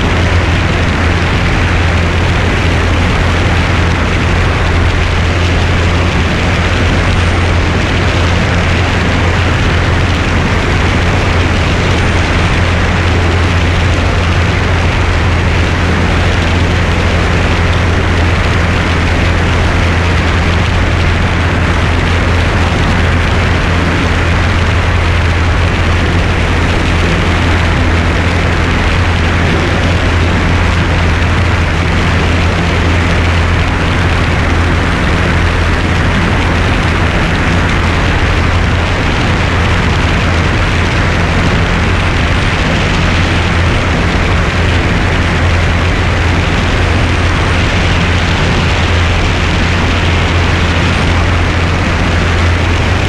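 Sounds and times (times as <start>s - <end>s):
light airplane engine and propeller: 0.0s - 53.0s
wind rush on microphone: 0.0s - 53.0s.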